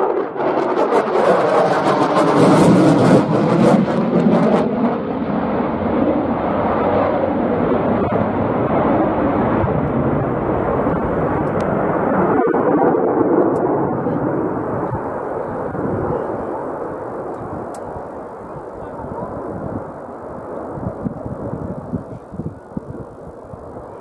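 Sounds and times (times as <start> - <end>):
fighter jet rumbling: 0.0 - 24.0.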